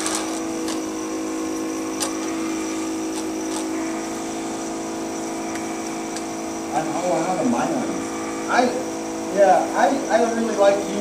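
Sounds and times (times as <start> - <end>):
wood lathe motor hum: 0.0 - 11.0.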